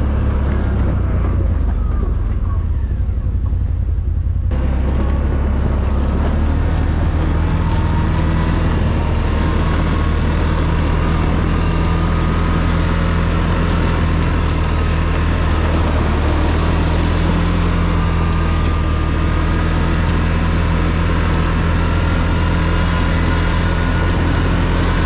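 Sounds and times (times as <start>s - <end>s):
atv engine droning: 0.0s - 25.0s
steady rushing noise: 3.1s - 25.0s.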